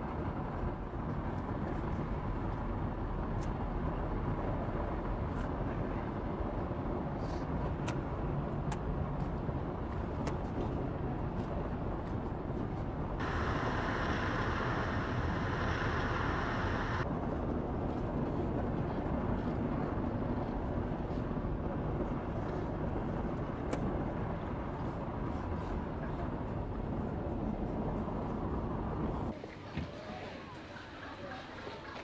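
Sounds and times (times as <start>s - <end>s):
engine and road rumble: 0.0s - 30.3s.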